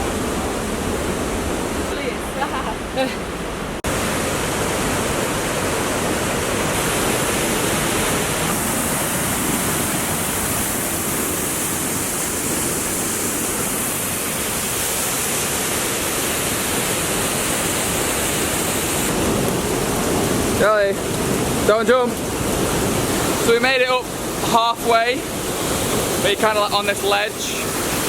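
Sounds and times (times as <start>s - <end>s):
waterfall crashing: 0.0s - 28.0s.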